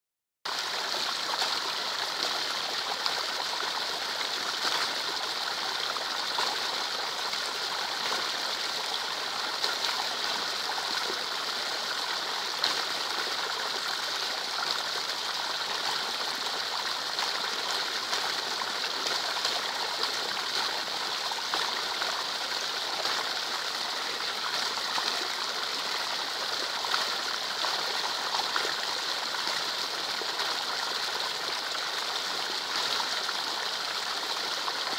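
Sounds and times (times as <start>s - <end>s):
rain splashing into a puddle: 0.5s - 34.9s.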